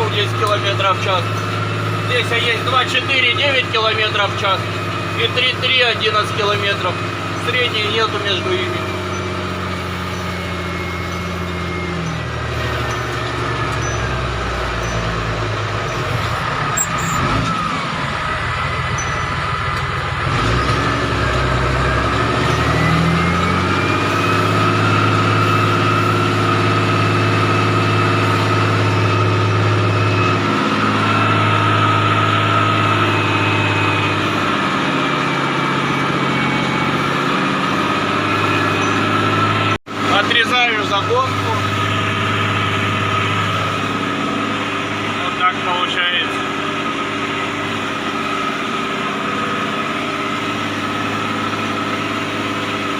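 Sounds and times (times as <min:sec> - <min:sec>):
engine whine: 0:00.0 - 0:52.9
tractor diesel engine under load: 0:00.0 - 0:52.9.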